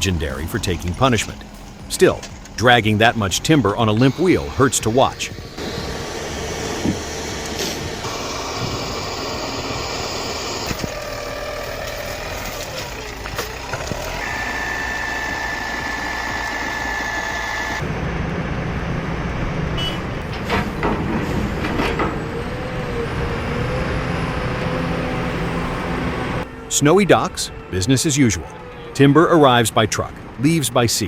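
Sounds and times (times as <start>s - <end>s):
high whine: 0.0s - 28.7s
heavy diesel engines running: 0.0s - 31.0s.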